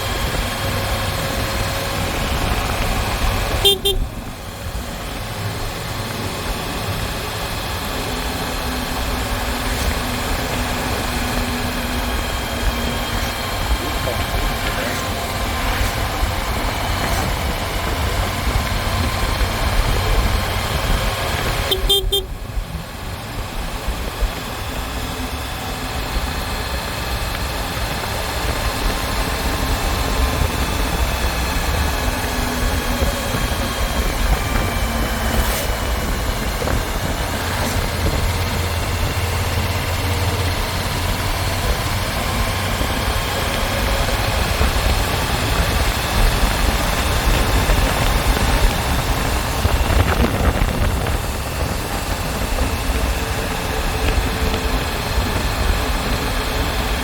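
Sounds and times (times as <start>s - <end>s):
motorcycle engine running: 0.0s - 57.0s
wind and road rumble: 0.0s - 57.0s.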